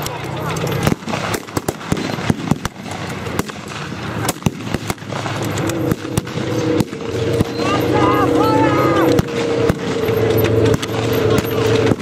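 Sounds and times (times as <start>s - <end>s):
gunshots cracking: 0.8s - 7.6s, 9.1s - 12.0s.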